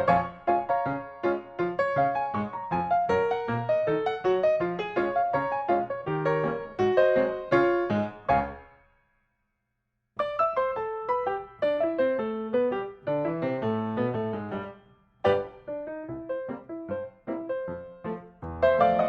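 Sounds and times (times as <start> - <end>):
piano music: 0.0 - 8.8, 10.2 - 19.0.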